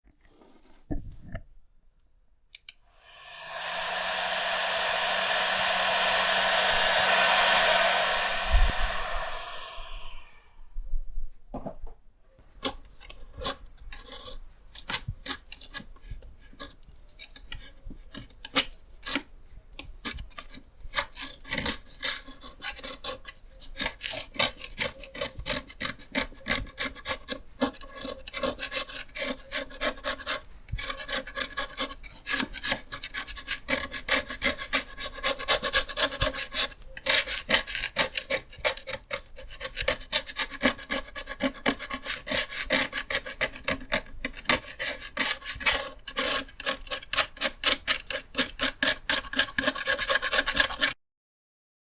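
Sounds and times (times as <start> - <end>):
paint scraper rasping: 3.0 - 10.5, 12.5 - 51.0.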